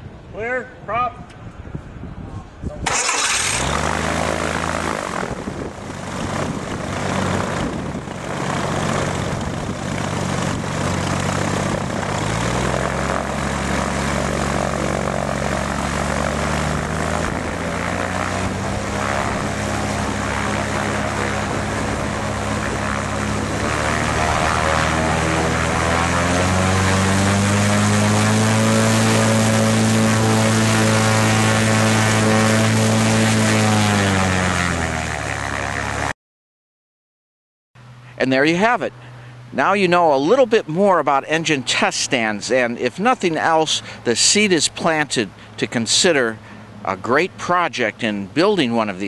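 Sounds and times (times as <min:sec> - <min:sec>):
engine running with propeller: 0:02.7 - 0:36.2, 0:37.8 - 0:49.0.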